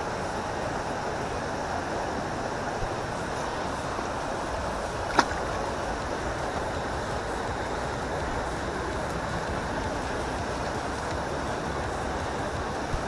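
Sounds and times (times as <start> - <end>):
water rushing in channel: 0.0 - 13.0.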